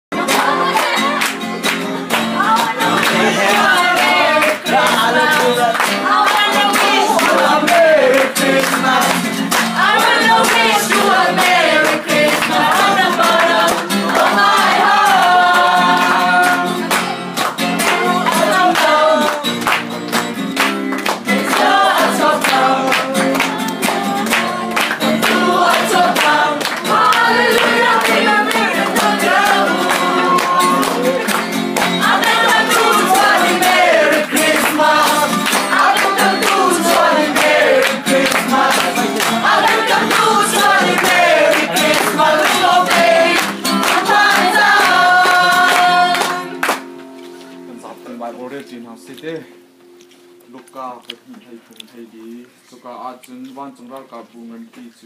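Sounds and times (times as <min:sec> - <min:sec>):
group singing a carol: 0:00.1 - 0:19.8, 0:21.1 - 0:46.8
strummed acoustic guitar: 0:00.1 - 0:50.6
hand clapping: 0:00.2 - 0:47.3.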